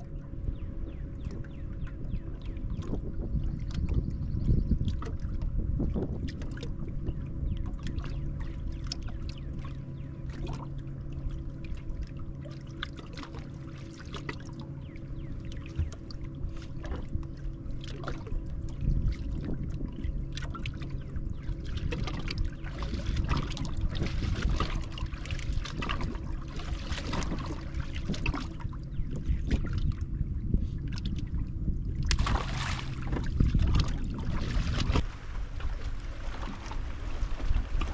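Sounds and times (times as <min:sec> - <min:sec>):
wind buffeting microphone: 0:00.0 - 0:10.7, 0:14.8 - 0:37.9
steady low hum: 0:00.0 - 0:37.9
water lapping against boat hull: 0:00.0 - 0:37.9.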